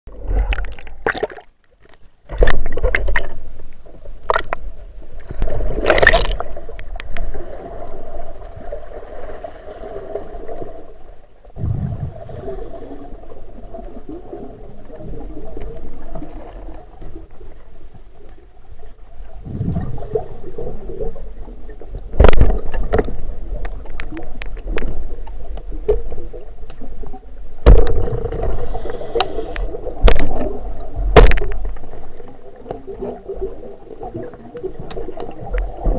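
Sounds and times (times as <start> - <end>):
muffled underwater water rush: 0.1 - 35.9.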